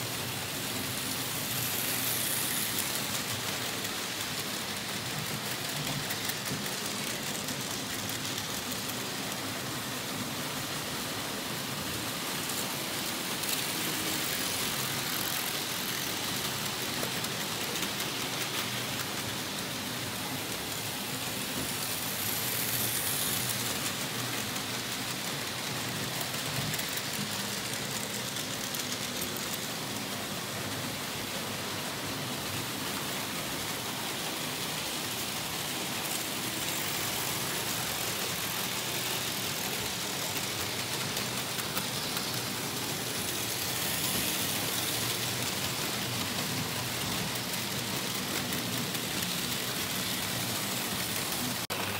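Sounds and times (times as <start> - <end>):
model train wheels rattling: 0.0 - 51.9.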